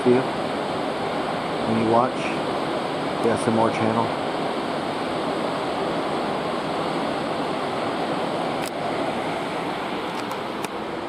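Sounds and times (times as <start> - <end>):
rushing water in a ship's wake: 0.0 - 11.0.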